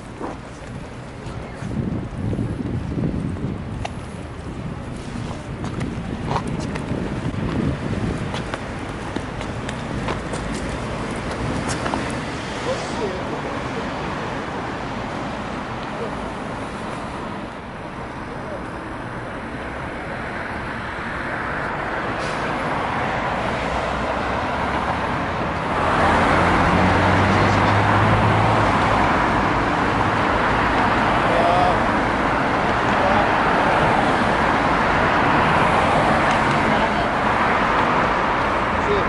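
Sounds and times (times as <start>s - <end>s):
tyre noise of passing traffic: 0.0s - 39.0s
vehicle engine hum: 0.0s - 39.0s.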